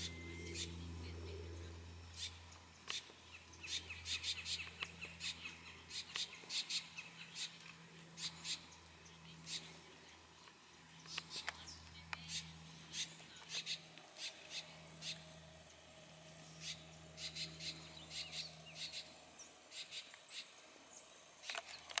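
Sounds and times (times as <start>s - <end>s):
faint low hum: 0.0s - 22.0s
small birds chirping: 0.0s - 22.0s.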